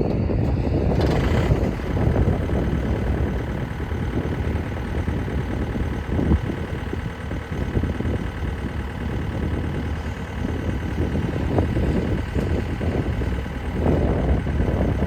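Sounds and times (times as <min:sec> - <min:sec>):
skid steer engine idling: 0:00.0 - 0:15.0.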